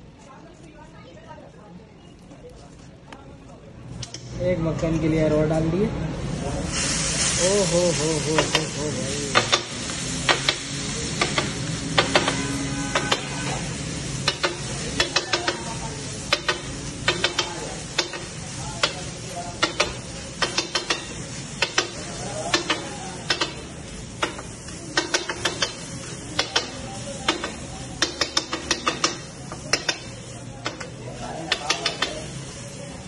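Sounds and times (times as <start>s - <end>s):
food sizzling: 6.1s - 33.0s.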